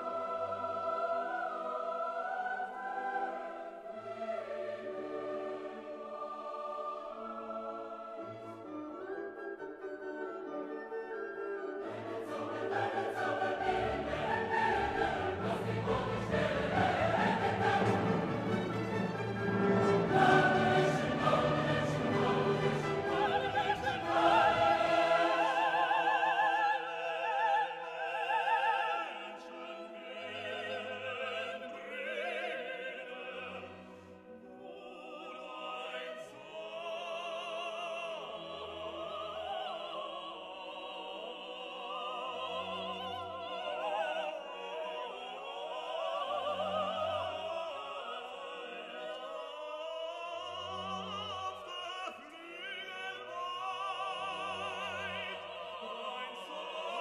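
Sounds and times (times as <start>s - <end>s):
operatic singing with orchestra: 0.0s - 57.0s.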